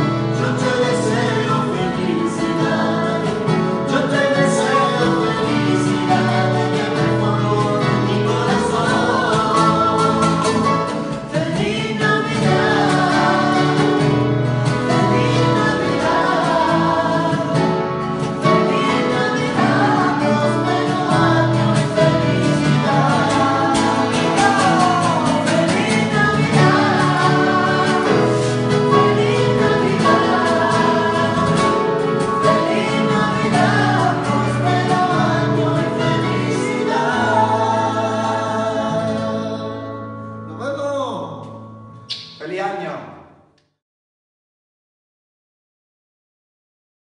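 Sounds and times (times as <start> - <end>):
strummed acoustic guitar: 0.0 - 40.0
mixed voices singing: 0.0 - 40.1.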